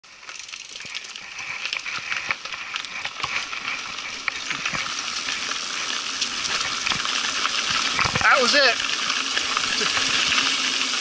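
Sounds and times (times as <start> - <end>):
bike clicking and rattling: 0.0 - 11.0
bike tyres crunching on dirt trail: 0.0 - 11.0.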